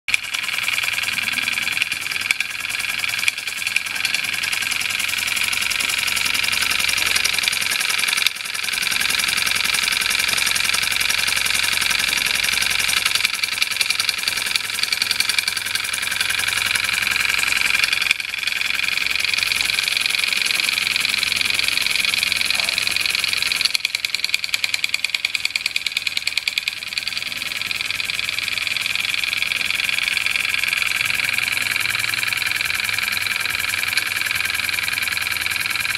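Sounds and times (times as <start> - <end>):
model steam engine running fast: 0.1 - 35.9.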